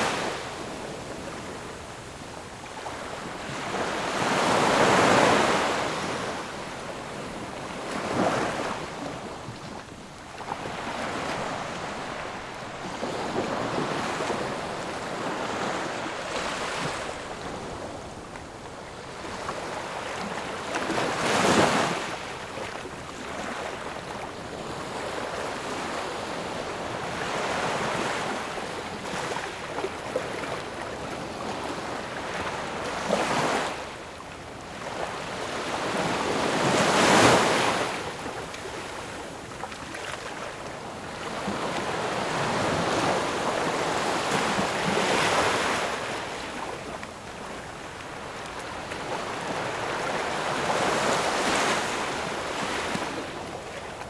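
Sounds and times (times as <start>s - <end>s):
ocean waves washing on shore: 0.0s - 54.0s.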